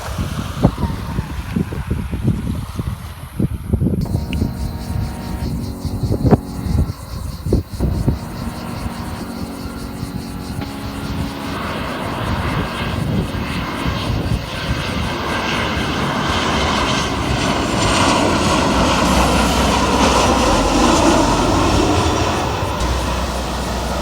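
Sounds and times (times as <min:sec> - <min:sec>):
airplane engine roar: 0:04.0 - 0:24.0.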